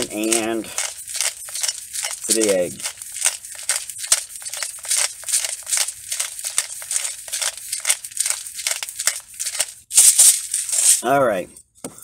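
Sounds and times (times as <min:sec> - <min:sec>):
pepper grinder grinding: 0:00.0 - 0:11.0.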